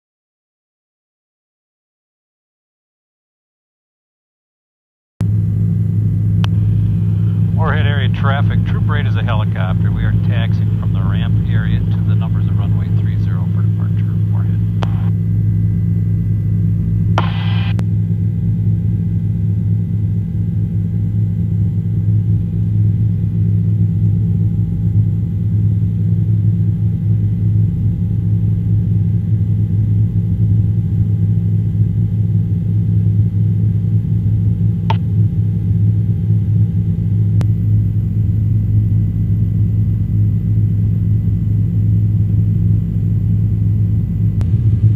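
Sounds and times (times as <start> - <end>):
helicopter engine and rotor drone: 5.2 - 44.9.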